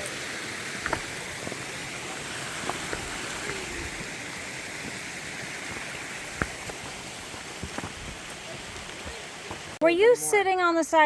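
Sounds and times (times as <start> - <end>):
creek rushing: 0.0 - 9.8.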